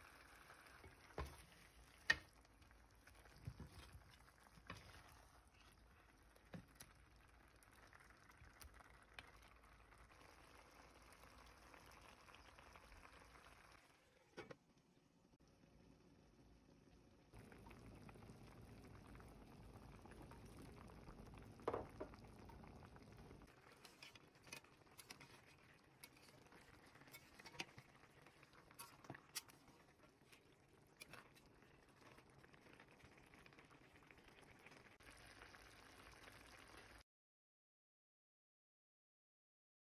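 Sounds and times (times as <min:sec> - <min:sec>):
sauce bubbling in a pot: 0:00.0 - 0:37.0.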